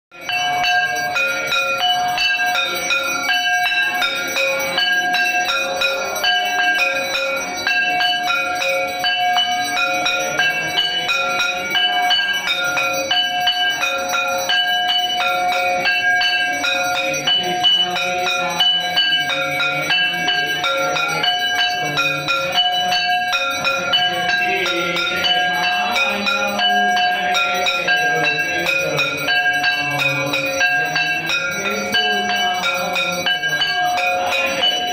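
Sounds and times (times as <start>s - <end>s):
temple bells ringing: 0.1s - 34.9s.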